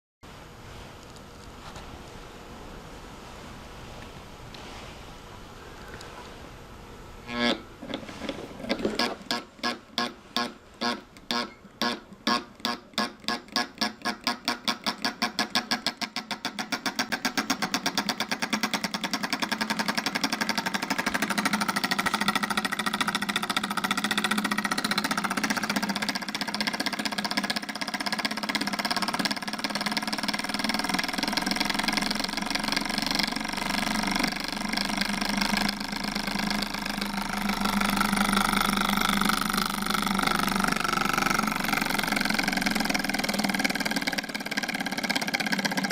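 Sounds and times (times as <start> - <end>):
solenoid engine clacking: 7.1 - 45.9.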